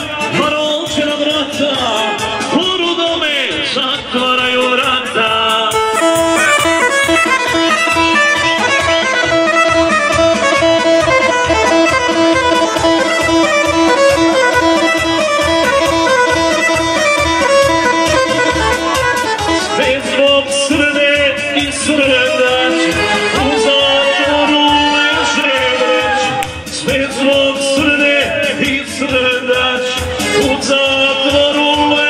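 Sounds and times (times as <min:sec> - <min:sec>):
loud instrumental music: 0:00.0 - 0:32.0.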